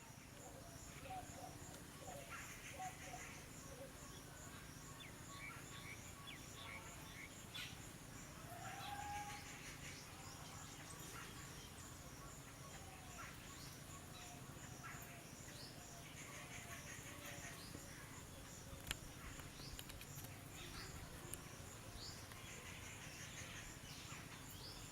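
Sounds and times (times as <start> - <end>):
insect pulsing chirp: 0.0 - 24.9.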